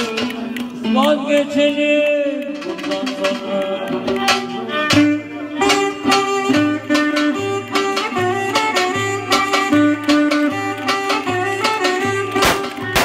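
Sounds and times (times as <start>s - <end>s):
drum strikes: 0.0s - 13.0s
lead melody: 0.0s - 13.0s
plucked strings: 0.0s - 13.0s.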